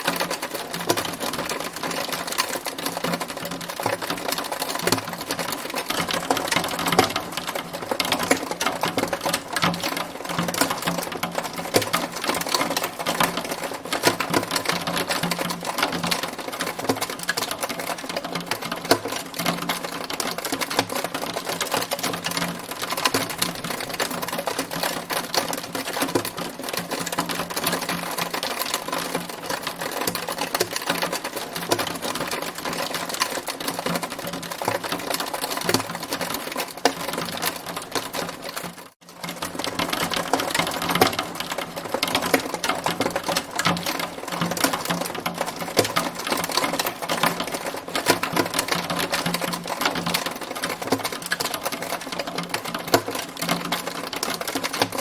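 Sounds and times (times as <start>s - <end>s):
hailstones pelting a hard surface: 0.0s - 55.0s.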